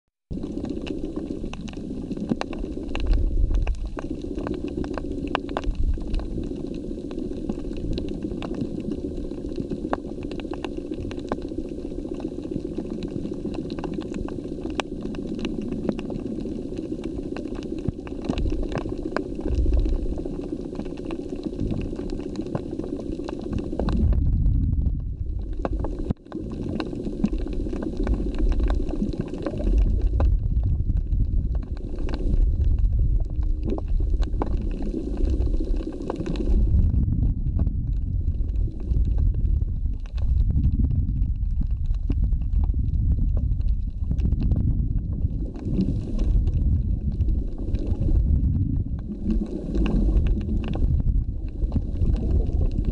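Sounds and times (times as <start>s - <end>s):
fine underwater crackling: 0.2s - 52.9s
rumbling surges of water: 0.3s - 42.8s, 45.0s - 52.9s
muffled underwater hum: 0.3s - 52.9s.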